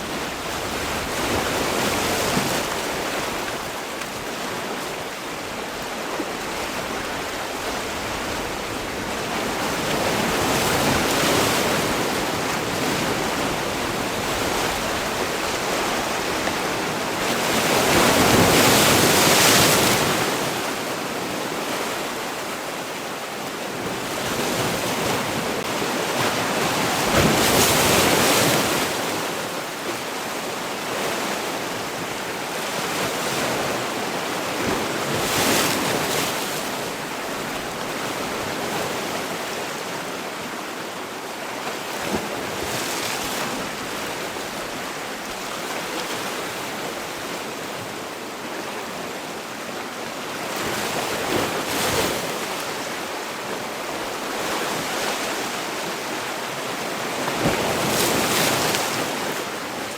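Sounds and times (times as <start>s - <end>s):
sea waves breaking on shore: 0.0s - 59.9s
wind: 0.0s - 59.9s.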